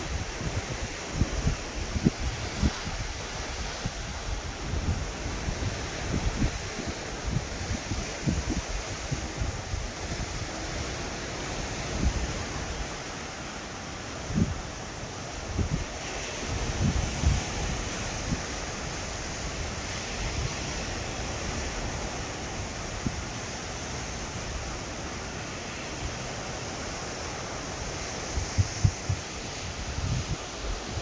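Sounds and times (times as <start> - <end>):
wind buffeting microphone: 0.0 - 13.0, 14.2 - 25.4, 27.8 - 31.0.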